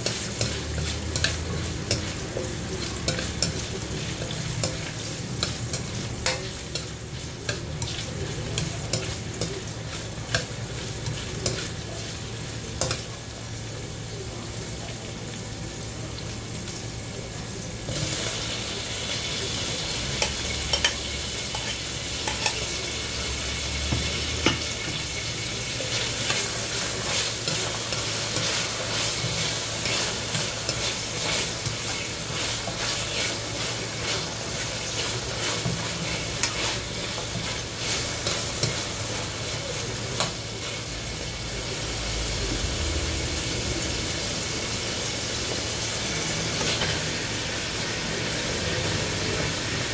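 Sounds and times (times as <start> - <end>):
vegetables sizzling in a pan: 0.0 - 49.9.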